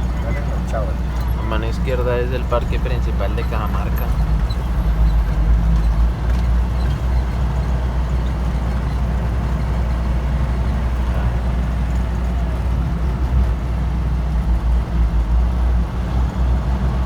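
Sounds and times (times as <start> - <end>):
diesel truck engine droning: 0.0 - 17.0
road noise: 0.0 - 17.0.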